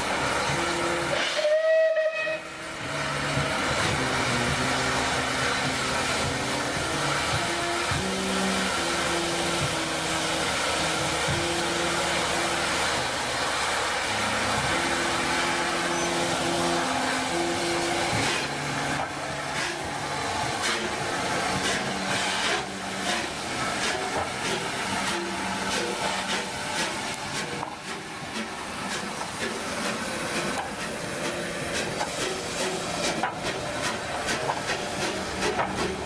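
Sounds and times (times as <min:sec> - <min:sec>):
steam locomotive drain cocks hissing: 0:00.0 - 0:36.0.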